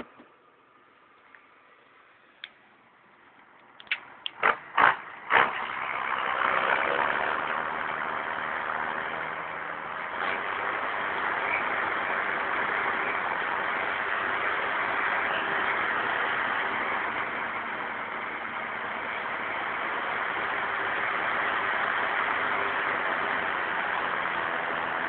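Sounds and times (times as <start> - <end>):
tractor diesel engine running: 4.3 - 25.0.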